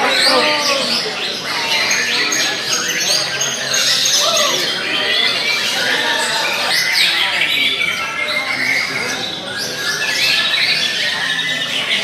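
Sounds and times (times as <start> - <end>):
birds whistling song: 0.0 - 12.0
murmur of voices: 0.0 - 12.0.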